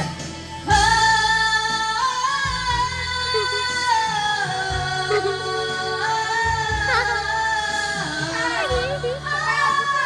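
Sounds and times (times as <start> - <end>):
music with singing: 0.0 - 10.0.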